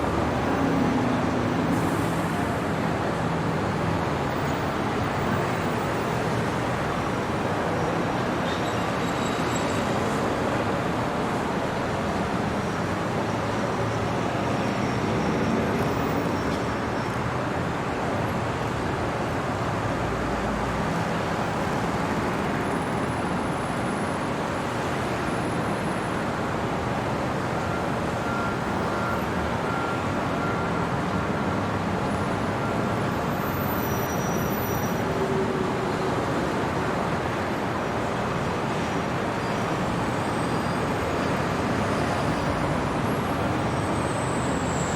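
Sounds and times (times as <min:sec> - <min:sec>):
city traffic noise: 0:00.0 - 0:44.9.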